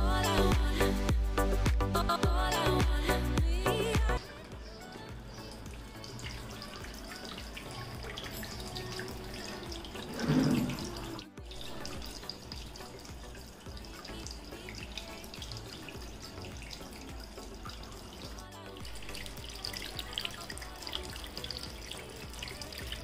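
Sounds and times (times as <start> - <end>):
fountain water trickling: 3.7 - 23.0.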